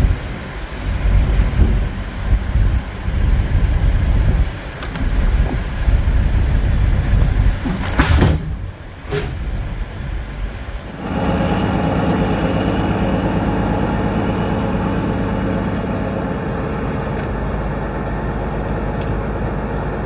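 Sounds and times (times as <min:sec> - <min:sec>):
truck diesel engine rumbling: 0:00.0 - 0:20.0.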